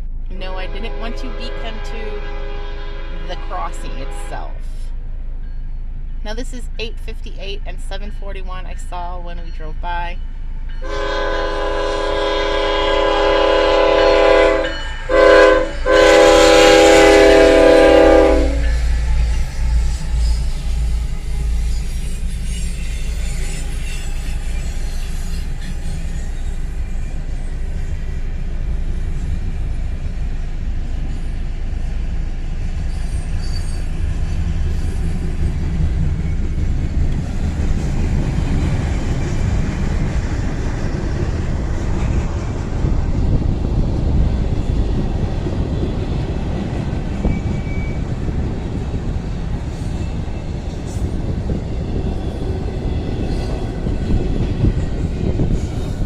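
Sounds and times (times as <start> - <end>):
train cars rumbling over rails: 0.0 - 56.0.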